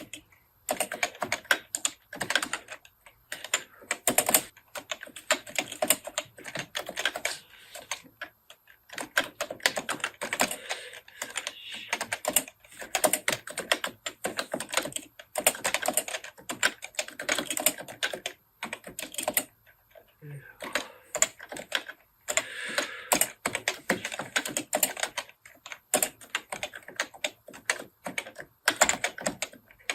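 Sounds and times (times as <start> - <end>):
fast typing on a keyboard: 0.0 - 29.9.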